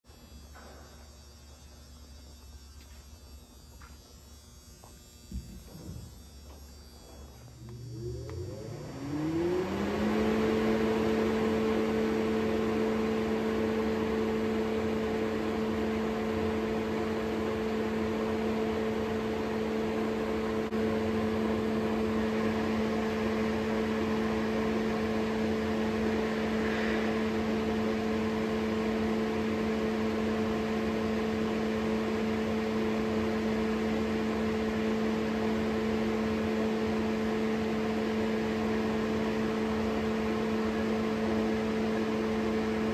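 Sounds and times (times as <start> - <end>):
exhaust fan humming: 0.0 - 42.9.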